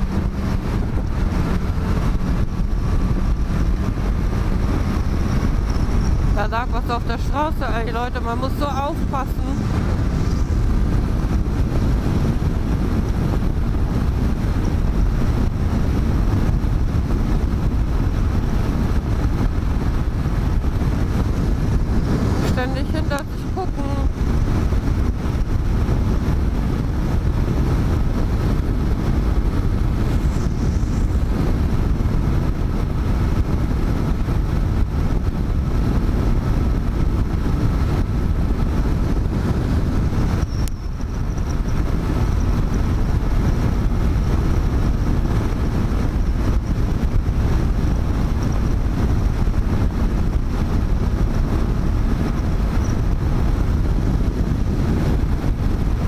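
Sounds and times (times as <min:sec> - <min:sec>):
motorcycle engine: 0:00.0 - 0:56.0
wind rush on microphone: 0:00.0 - 0:56.0.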